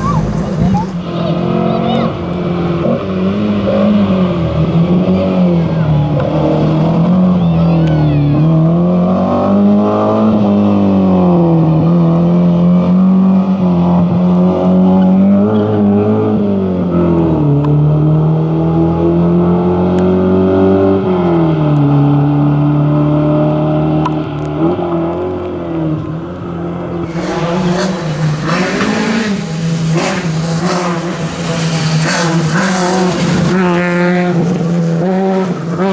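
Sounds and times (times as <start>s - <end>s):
rally car engine revving: 0.0s - 35.9s.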